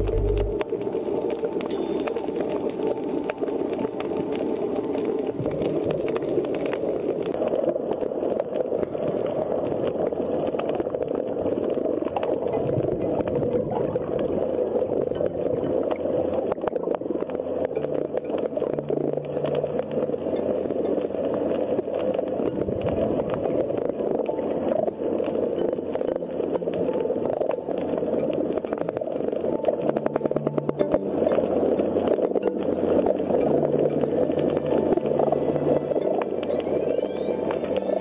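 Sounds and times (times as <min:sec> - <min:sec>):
crackle of fine clicks: 0:00.0 - 0:38.0.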